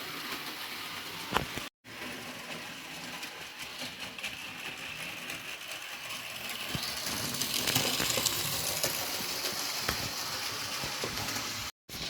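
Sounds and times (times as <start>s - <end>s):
train clicks and rattles: 0.0s - 11.7s.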